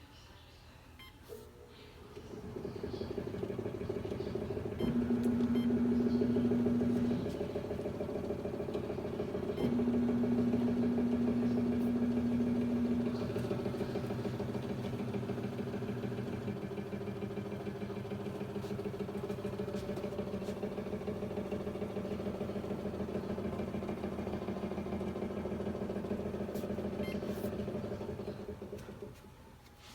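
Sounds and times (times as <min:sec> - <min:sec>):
treadmill motor whining hum: 0:01.0 - 0:29.6.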